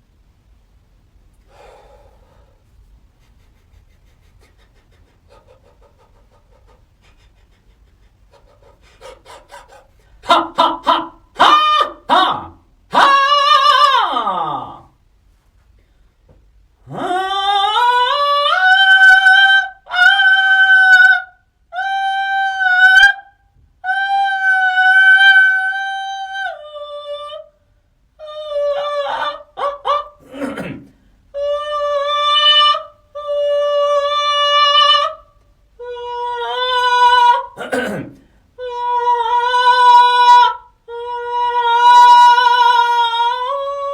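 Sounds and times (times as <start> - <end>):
person singing vocal warm-up: 3.2 - 15.0, 16.8 - 27.6, 28.2 - 43.9.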